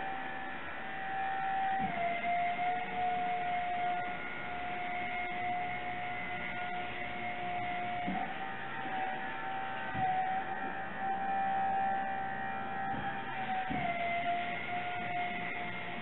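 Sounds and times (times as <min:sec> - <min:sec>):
hydraulic drive whining: 0:00.0 - 0:16.0.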